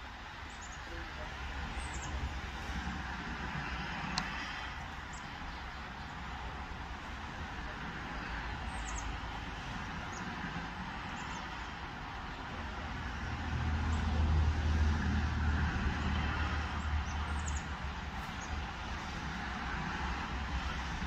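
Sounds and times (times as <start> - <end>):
road traffic noise: 0.0 - 21.0
vehicle low rumble: 0.0 - 21.0.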